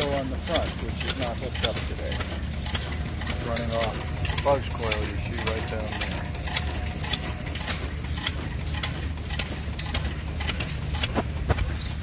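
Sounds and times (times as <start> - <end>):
regular sharp clicks: 0.0 - 11.2
engine running: 0.0 - 12.0.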